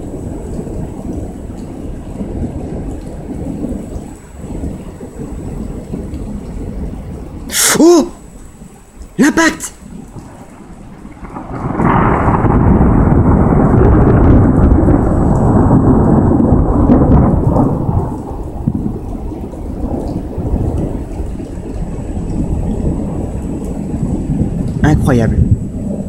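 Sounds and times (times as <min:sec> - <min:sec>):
rain falling: 0:00.0 - 0:26.0
thunder rumble: 0:00.0 - 0:26.0.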